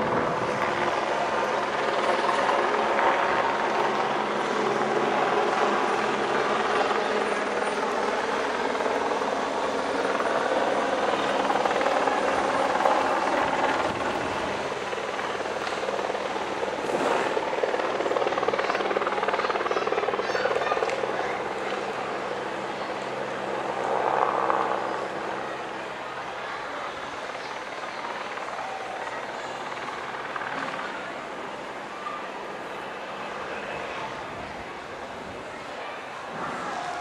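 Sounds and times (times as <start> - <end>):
helicopter flying overhead: 0.0 - 37.0.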